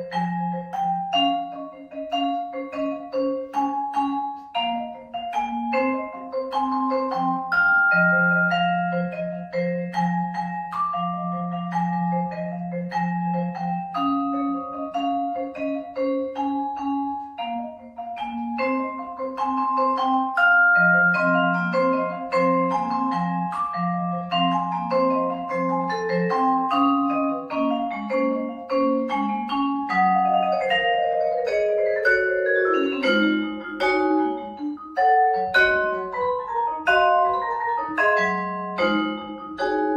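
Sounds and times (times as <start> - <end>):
vibraphone played with mallets: 0.0 - 39.9.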